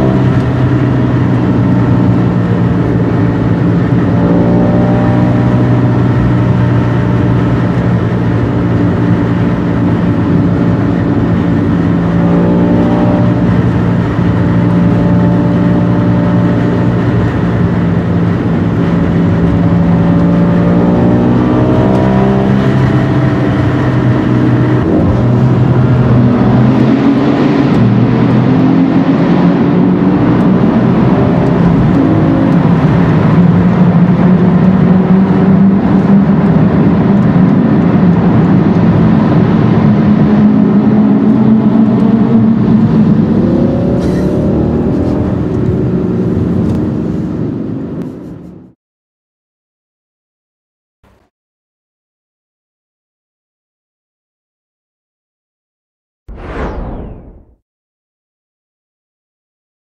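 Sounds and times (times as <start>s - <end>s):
sports car engine accelerating: 0.0s - 48.8s.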